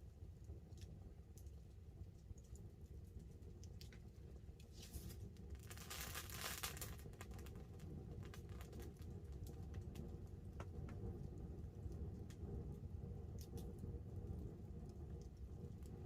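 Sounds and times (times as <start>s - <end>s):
campfire crackling and popping: 0.2s - 16.0s.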